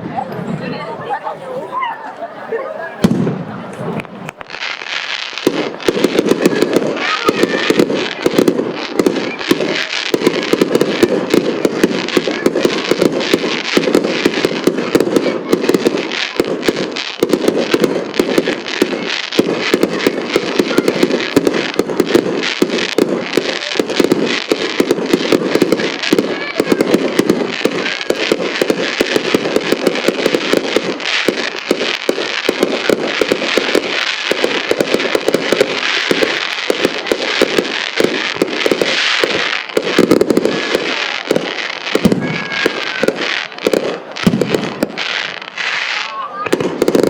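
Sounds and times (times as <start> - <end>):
fireworks bursting and crackling: 2.9 - 47.0.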